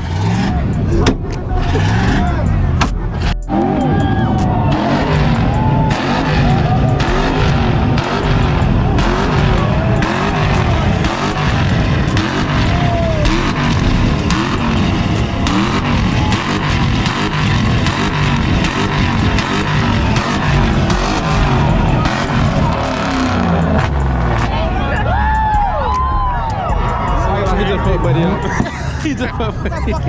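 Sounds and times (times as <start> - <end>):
car engines revving on limiter: 0.0 - 30.0
exhaust crackling and popping: 0.0 - 30.0.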